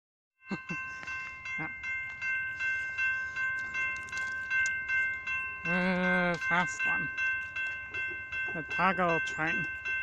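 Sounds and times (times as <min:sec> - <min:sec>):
railroad crossing bell ringing: 0:00.4 - 0:10.0.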